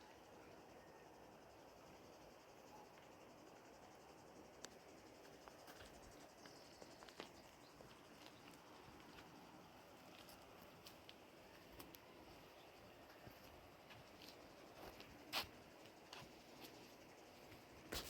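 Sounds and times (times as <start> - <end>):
faint insects chirring: 0.0 - 18.0.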